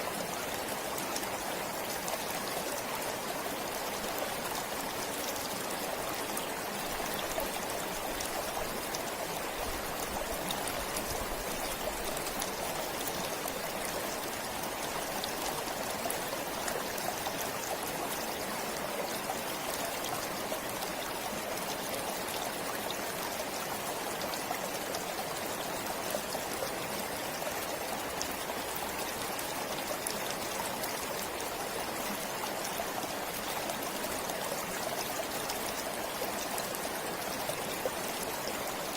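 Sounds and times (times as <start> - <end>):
stream flowing and trickling: 0.0 - 38.9.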